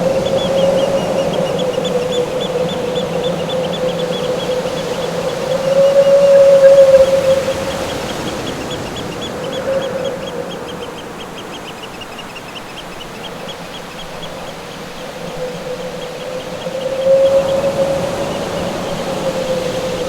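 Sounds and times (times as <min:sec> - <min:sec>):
surf rushing: 0:00.0 - 0:11.9, 0:13.8 - 0:20.0
wind howling: 0:00.0 - 0:20.0.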